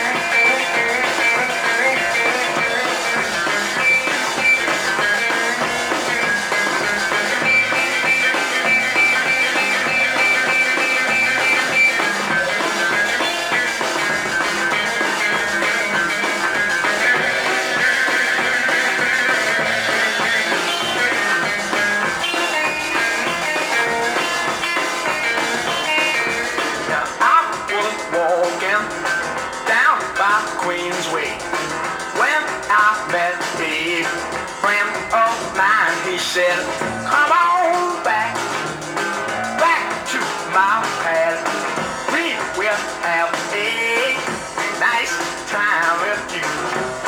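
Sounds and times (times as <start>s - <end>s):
rock band playing: 0.0s - 47.0s.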